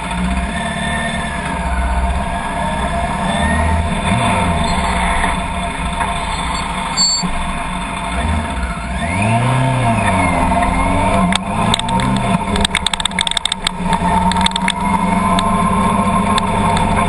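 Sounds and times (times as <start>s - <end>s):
car engine driving: 0.0s - 17.0s.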